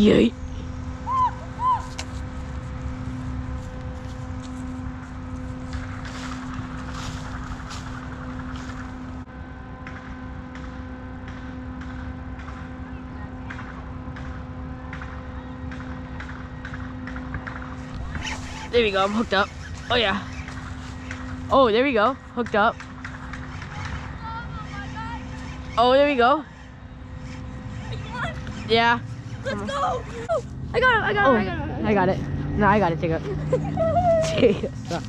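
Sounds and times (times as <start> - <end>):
engine-like hum: 0.0 - 35.0.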